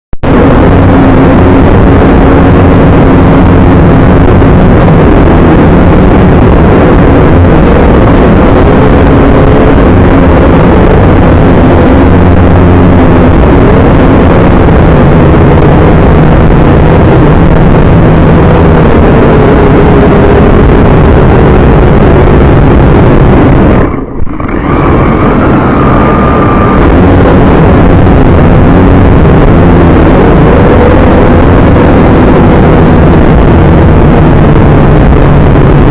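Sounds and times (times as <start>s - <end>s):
drone propellers buzzing: 0.2s - 35.9s.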